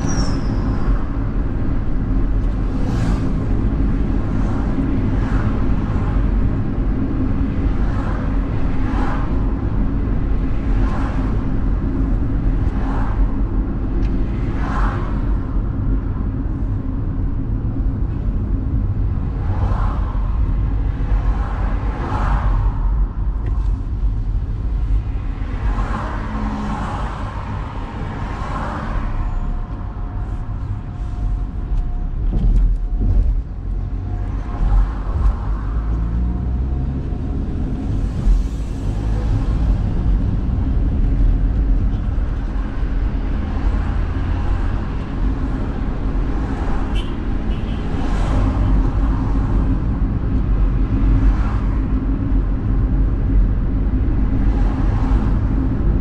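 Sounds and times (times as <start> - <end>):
car engine and tyre rumble: 0.0 - 56.0
passing traffic: 0.0 - 56.0.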